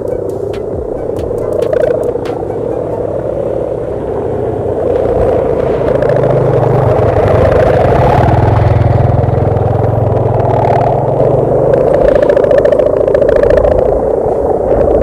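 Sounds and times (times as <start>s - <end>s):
kite hummers droning in wind: 0.0s - 15.0s.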